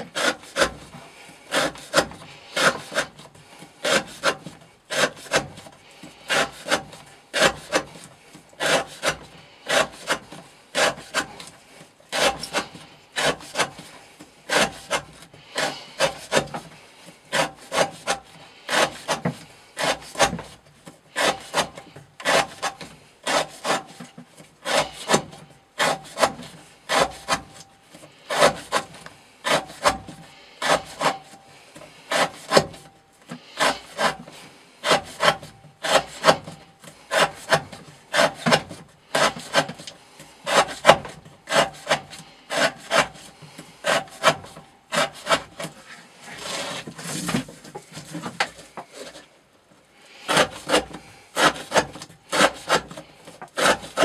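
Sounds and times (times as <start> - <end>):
knife cutting rope on wood board: 0.0 - 49.3, 50.3 - 54.0.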